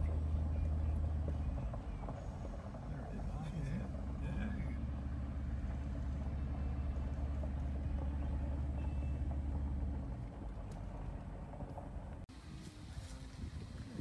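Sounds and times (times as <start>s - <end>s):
vehicle engine rumble from cabin: 0.0s - 14.0s.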